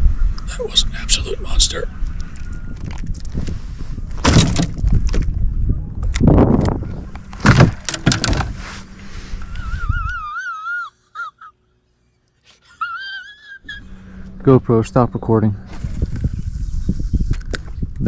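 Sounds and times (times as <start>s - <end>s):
wind rumbling on microphone: 0.0s - 10.2s, 13.7s - 18.0s.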